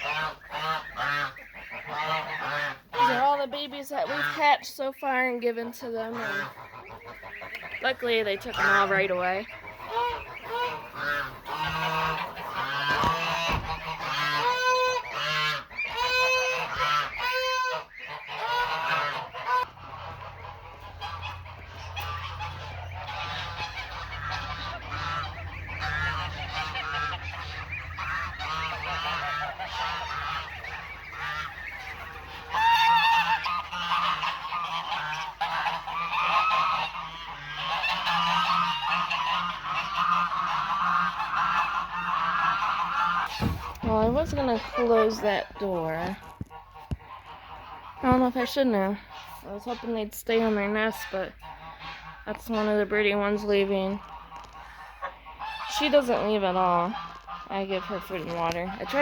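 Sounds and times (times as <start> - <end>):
geese honking: 0.0 - 59.0.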